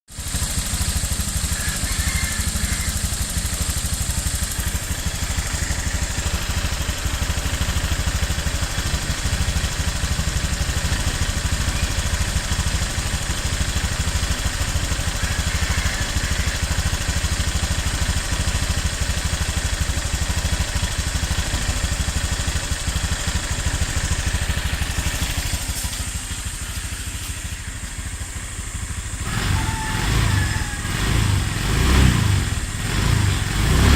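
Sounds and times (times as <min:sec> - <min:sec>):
engine ticking: 0:00.1 - 0:33.9
scooter engine idling: 0:00.1 - 0:33.9.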